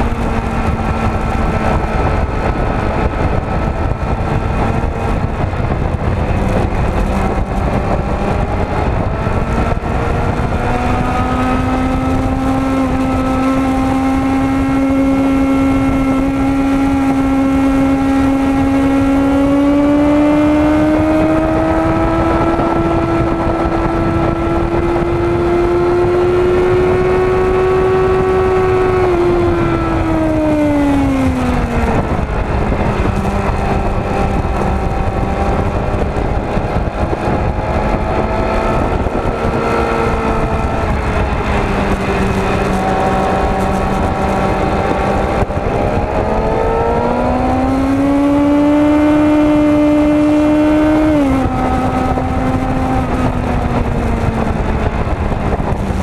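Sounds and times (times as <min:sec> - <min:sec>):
motorcycle engine at speed: 0:00.0 - 0:56.0
wind rush on microphone: 0:00.0 - 0:56.0.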